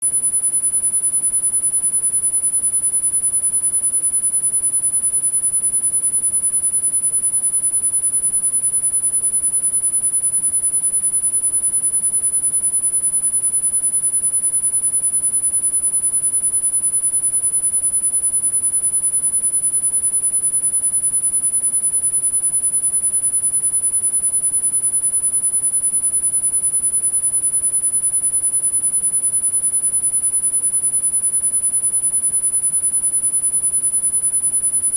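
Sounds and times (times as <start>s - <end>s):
high-pitched sine tone: 0.0s - 34.9s.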